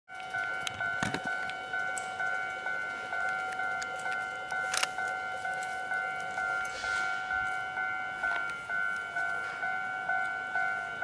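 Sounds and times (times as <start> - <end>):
level crossing warning bell: 0.1 - 11.0.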